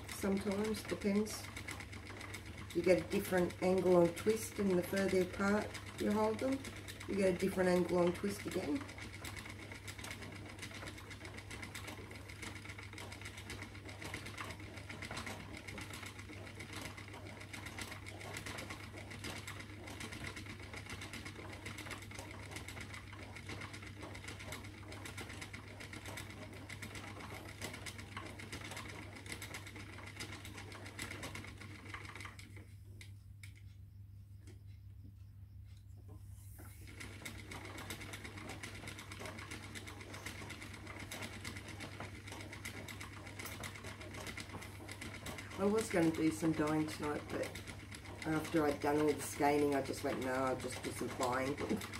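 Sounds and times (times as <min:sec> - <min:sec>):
spinning wheel fast rattle: 0:00.0 - 0:33.6, 0:36.7 - 0:51.9
spinning wheel hum: 0:00.0 - 0:51.9.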